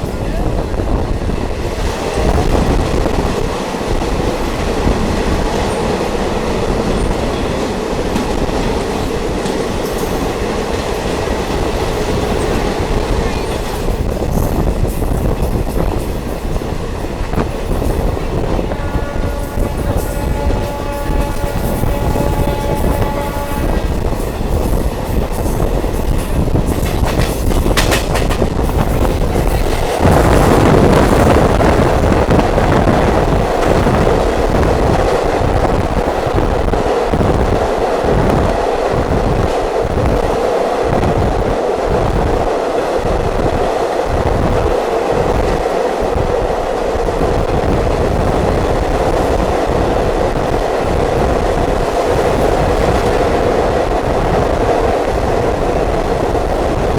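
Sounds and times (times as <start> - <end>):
train rumbling: 0.0 - 56.9
wheels clickety-clack: 0.0 - 56.9.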